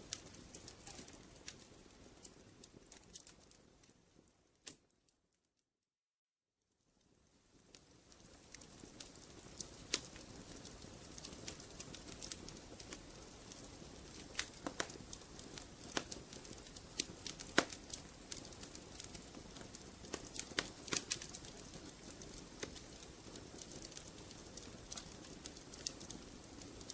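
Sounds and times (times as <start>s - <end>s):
fire hissing softly: 0.0s - 5.1s, 6.7s - 26.9s
wood fire crackling: 0.0s - 5.1s, 7.0s - 26.9s.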